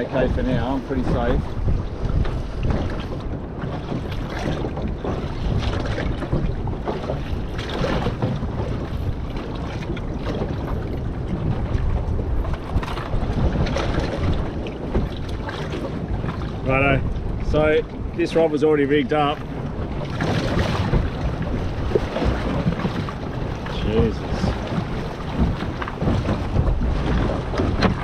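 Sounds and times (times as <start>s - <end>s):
waves washing around hull: 0.0s - 28.0s
wind rumbling on microphone: 0.0s - 28.0s.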